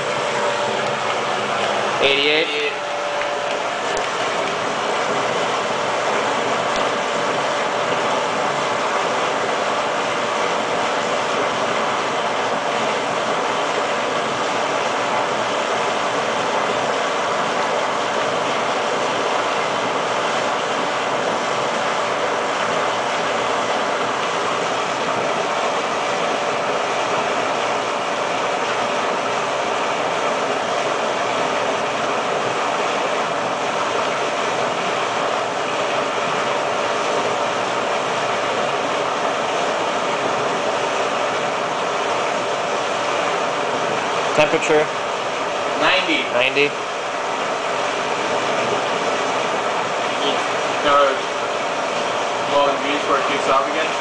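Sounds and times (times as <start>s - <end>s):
pump humming: 0.0s - 54.0s
water rushing through pipes: 0.0s - 54.0s.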